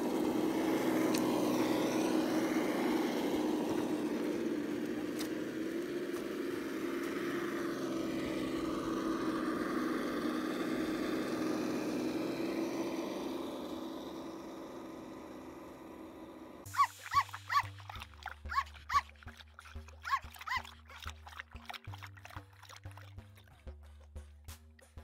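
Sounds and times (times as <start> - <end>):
toy car electric motor whining: 0.0 - 21.0.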